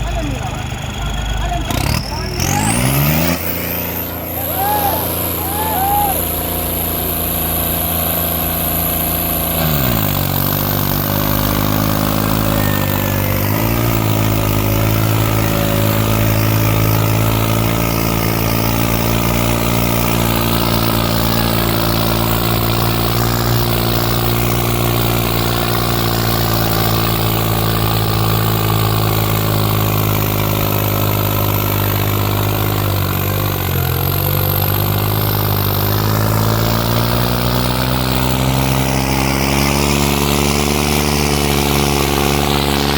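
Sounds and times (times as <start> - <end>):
tractor diesel engine running hard: 0.0 - 42.9.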